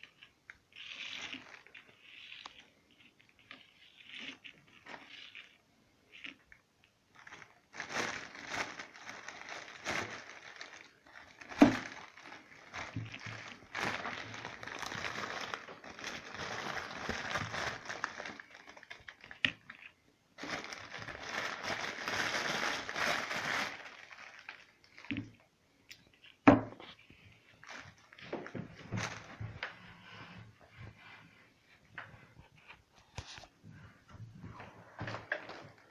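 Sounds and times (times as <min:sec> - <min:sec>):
plastic crinkling and rustling: 0:00.0 - 0:25.5, 0:26.1 - 0:31.1, 0:34.4 - 0:35.9.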